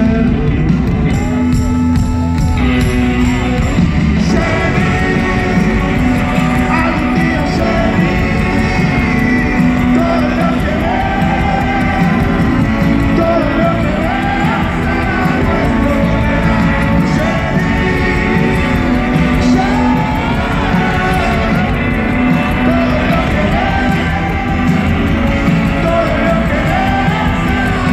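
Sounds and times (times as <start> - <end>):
man singing: 0.0 - 1.6, 4.2 - 27.9
live rock band: 0.0 - 27.9.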